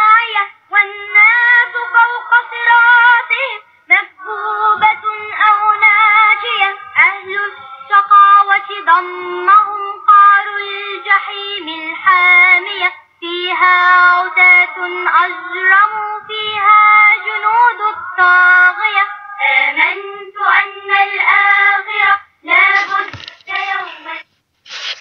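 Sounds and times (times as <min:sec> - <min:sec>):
child singing: 0:00.0 - 0:24.2.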